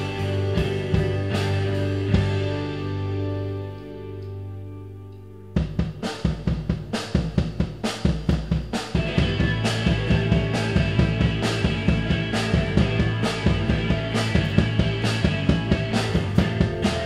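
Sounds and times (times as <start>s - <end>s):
live rock band: 0.0s - 3.4s, 5.7s - 17.0s.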